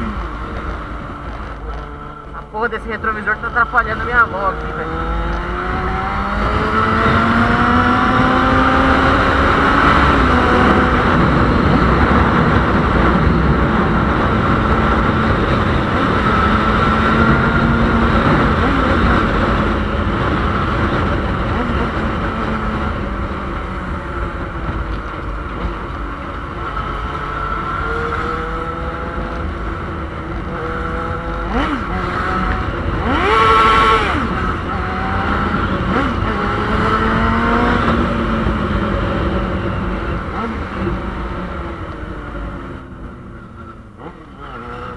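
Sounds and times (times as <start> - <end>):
wind rush on microphone: 0.0 - 44.0.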